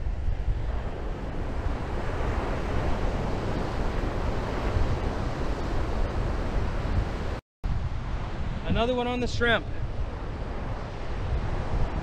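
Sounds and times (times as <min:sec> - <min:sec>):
ocean surf breaking on beach: 0:00.0 - 0:12.0
wind rumbling on microphone: 0:00.0 - 0:12.0.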